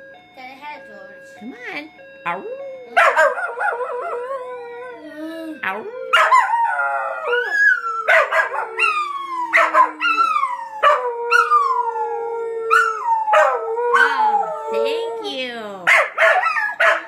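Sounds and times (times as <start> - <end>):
dogs howling: 2.4 - 17.0.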